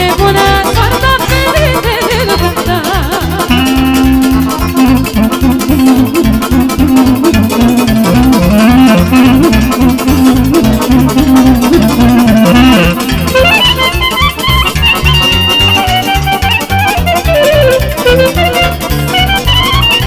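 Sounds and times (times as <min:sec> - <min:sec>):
accordion: 0:00.0 - 0:20.0
clarinet: 0:00.0 - 0:20.0
pulsing bass beat: 0:00.0 - 0:20.0
cimbalom: 0:02.5 - 0:20.0.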